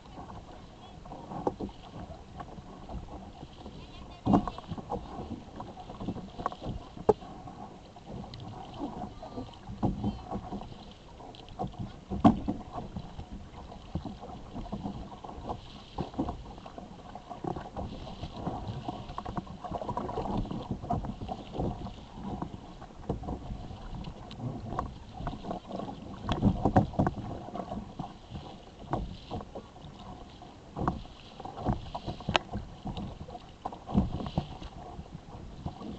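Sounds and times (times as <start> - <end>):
steady wash of water: 0.0 - 35.9
water slapping against kayak hull: 0.0 - 35.9.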